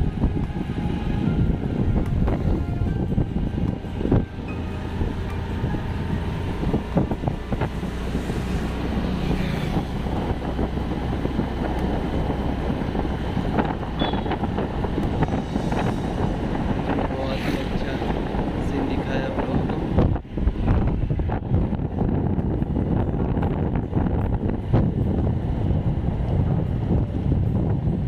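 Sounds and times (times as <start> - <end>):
motorbike running: 0.0 - 28.0
road noise: 0.0 - 28.0
wind buffeting microphone: 0.0 - 28.0.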